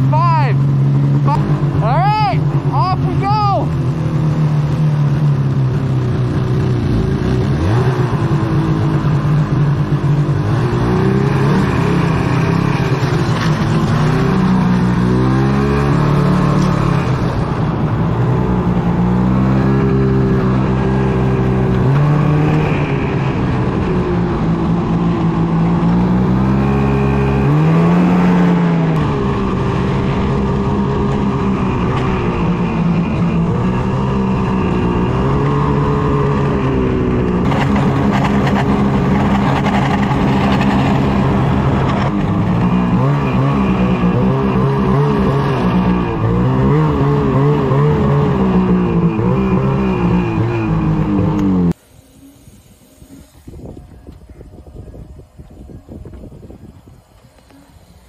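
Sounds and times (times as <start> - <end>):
snowmobile engine revving: 0.0 - 53.6.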